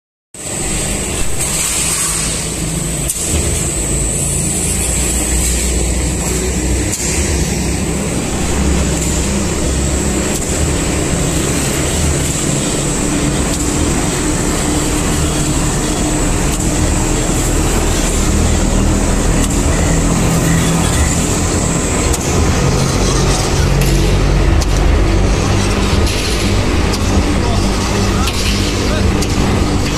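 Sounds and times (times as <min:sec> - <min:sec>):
roll forming machine drone: 0:00.4 - 0:29.9.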